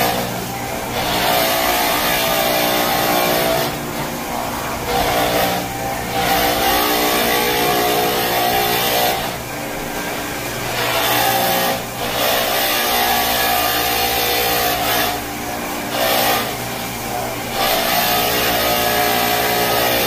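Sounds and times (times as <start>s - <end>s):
floor scrubber motor whine: 0.0s - 20.0s.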